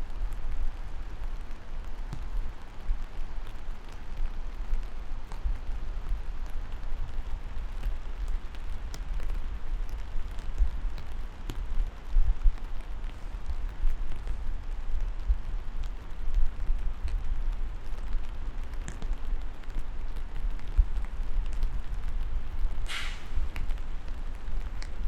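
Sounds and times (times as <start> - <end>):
low uneven rumble: 0.0 - 25.0
steady rain: 0.0 - 25.0.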